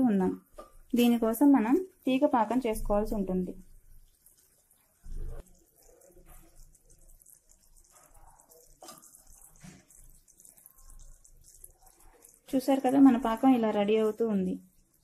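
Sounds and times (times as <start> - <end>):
water swishing and splashing in bowl: 2.8 - 15.0.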